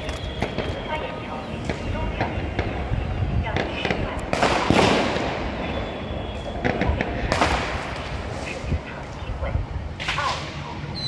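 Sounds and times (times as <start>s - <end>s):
fireworks bangs and cracks: 0.0s - 8.9s
fireworks crackling: 0.0s - 10.6s.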